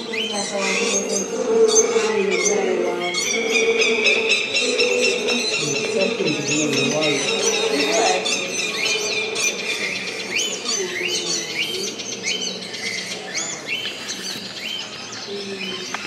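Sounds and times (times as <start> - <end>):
animals chirping: 0.0 - 16.0.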